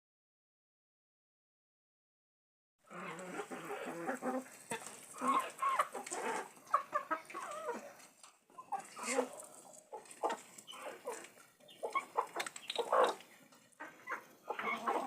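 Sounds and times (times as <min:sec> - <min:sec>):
chickens clucking: 0:02.9 - 0:15.0.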